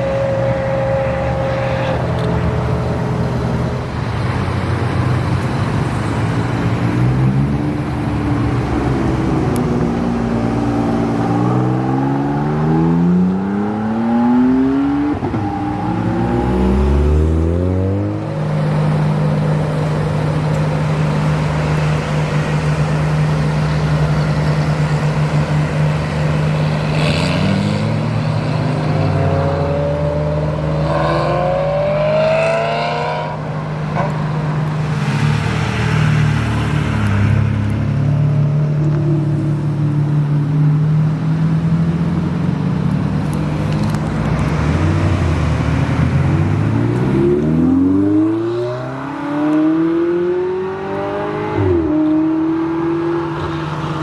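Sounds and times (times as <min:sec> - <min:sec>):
car engines accelerating hard: 0:00.0 - 0:54.0
steady engine drone: 0:00.0 - 0:54.0
car revving up: 0:05.7 - 0:40.0, 0:41.6 - 0:54.0.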